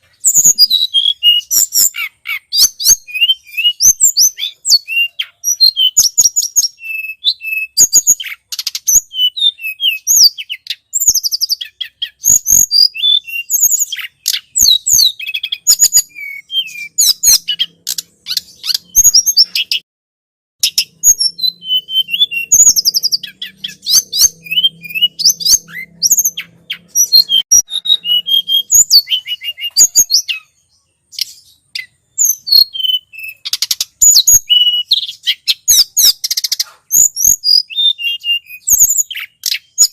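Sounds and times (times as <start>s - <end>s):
bird chirping and trilling: 0.0s - 19.8s, 20.6s - 39.9s.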